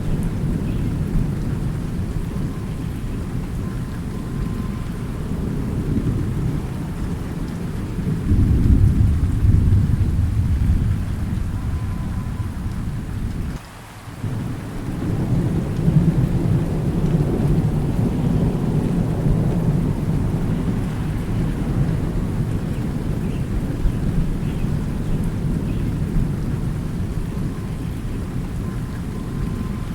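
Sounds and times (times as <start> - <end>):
thunder rumbling: 0.0 - 13.6, 14.2 - 29.9
steady rain: 0.0 - 29.9.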